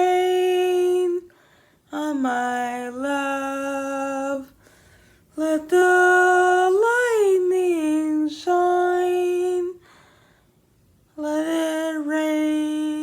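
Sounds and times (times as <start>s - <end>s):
person singing unaccompanied: 0.0s - 4.6s, 5.3s - 9.8s, 11.2s - 13.0s.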